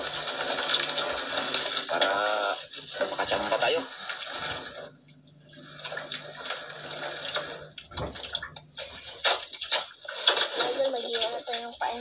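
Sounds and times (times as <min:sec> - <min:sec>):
faint steady hum: 0:00.0 - 0:12.0
water lapping against boat hull: 0:00.0 - 0:12.0.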